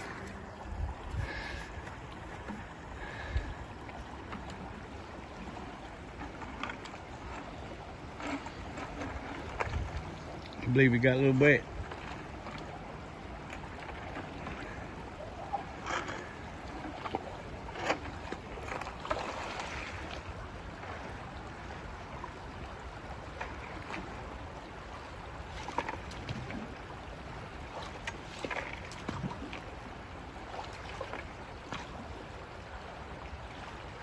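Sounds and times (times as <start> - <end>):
creek water running: 0.0 - 34.0.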